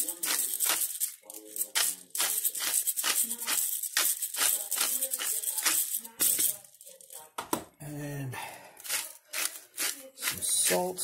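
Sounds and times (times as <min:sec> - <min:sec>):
pepper mill grinding peppercorns: 0:00.0 - 0:07.3, 0:08.8 - 0:11.0.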